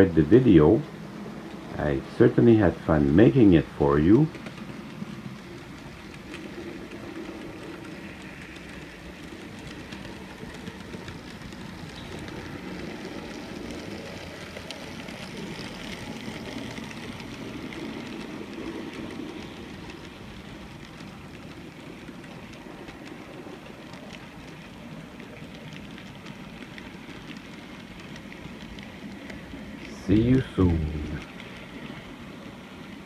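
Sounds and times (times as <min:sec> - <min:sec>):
model train running on track: 0:00.0 - 0:33.0
wheels clicking: 0:00.0 - 0:33.0.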